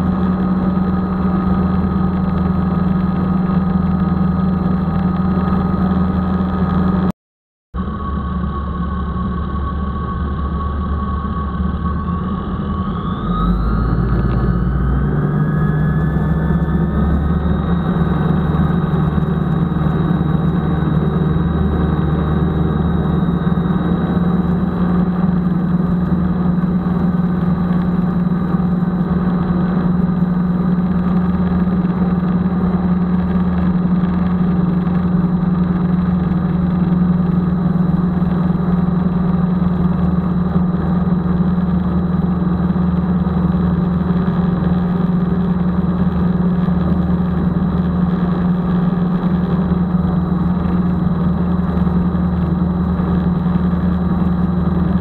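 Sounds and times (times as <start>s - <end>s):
light aircraft engine drone: 0.0s - 7.1s, 7.8s - 55.0s.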